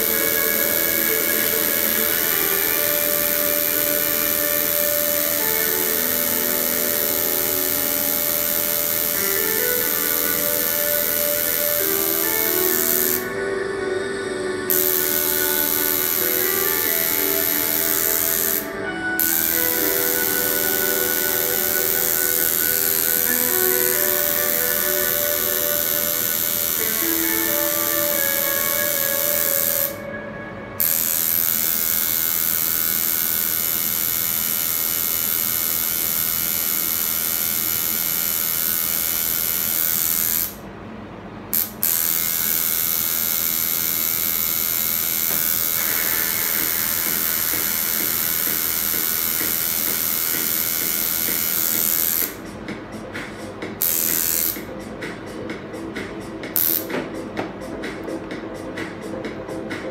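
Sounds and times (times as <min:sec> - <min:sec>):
tattoo machine buzzing: 0:00.0 - 0:13.6, 0:14.5 - 0:30.0, 0:30.8 - 0:40.6, 0:41.5 - 0:52.5, 0:53.7 - 0:54.7, 0:56.5 - 0:57.2.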